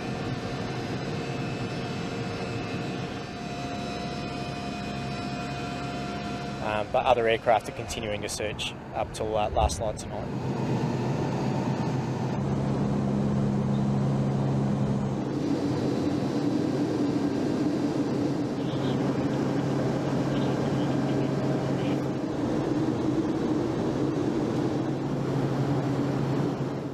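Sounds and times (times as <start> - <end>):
aircraft engine drone in cabin: 0.0 - 26.9.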